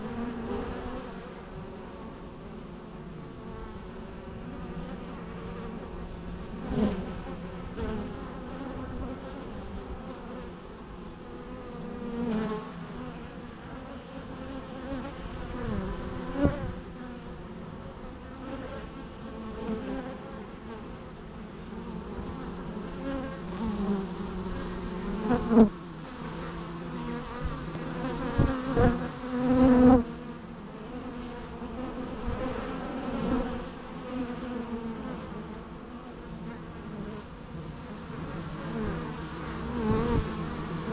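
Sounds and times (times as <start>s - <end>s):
bees buzzing in a steady hum: 0.0s - 40.9s
single bees buzzing past: 0.0s - 40.9s.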